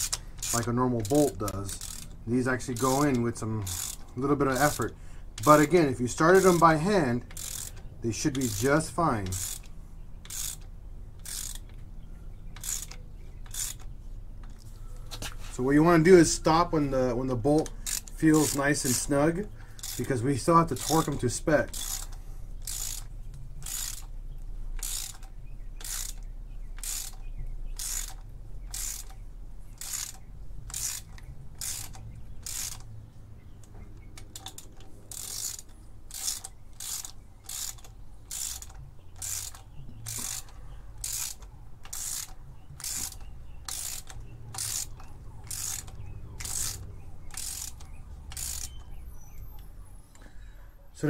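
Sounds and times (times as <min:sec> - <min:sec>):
hand ratchet clicking: 0:00.0 - 0:11.9, 0:12.5 - 0:14.6, 0:15.5 - 0:29.2, 0:29.8 - 0:32.9, 0:33.6 - 0:49.0.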